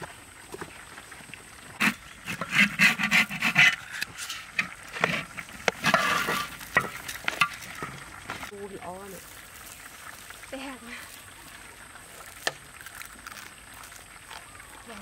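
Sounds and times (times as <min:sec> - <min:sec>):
rice scraping and sizzling in pan: 0:01.8 - 0:14.6.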